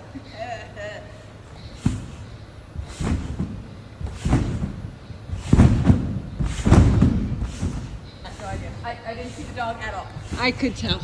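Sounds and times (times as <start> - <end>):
trampoline springs thudding: 1.2 - 11.0.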